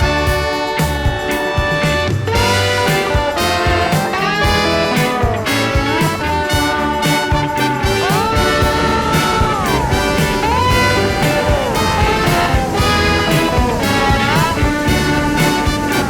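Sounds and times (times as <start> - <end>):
brass sliding notes: 0.0 - 16.0
upbeat jazzy instrumental music: 0.0 - 16.0.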